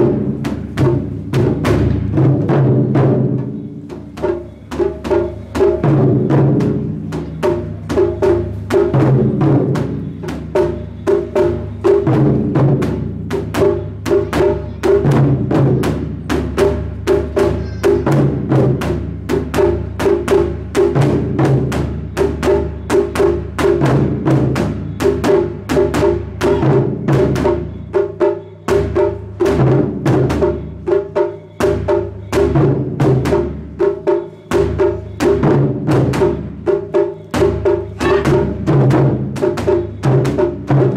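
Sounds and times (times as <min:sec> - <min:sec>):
barrel drums struck in unison: 0:00.0 - 0:40.9.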